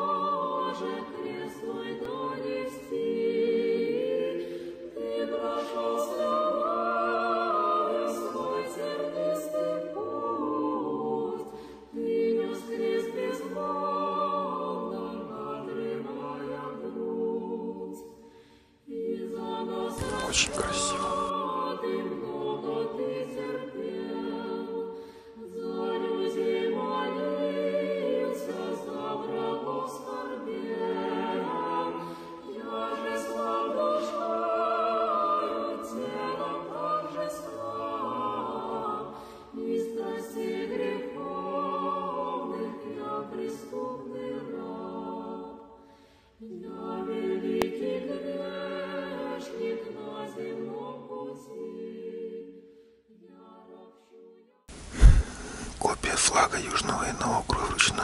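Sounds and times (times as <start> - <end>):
unaccompanied choir chanting: 0.0 - 58.0.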